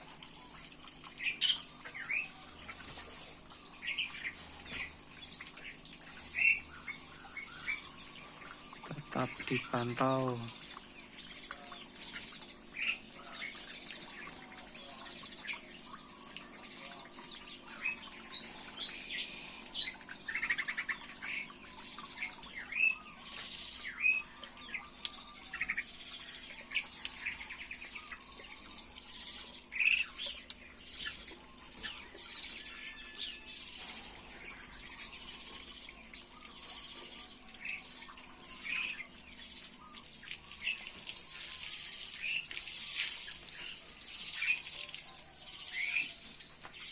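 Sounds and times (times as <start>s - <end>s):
small songbirds chirping: 0.0s - 46.9s.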